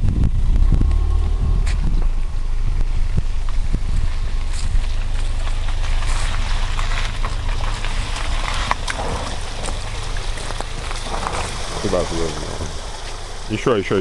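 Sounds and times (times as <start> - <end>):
car rumbling slowly: 0.0 - 14.0.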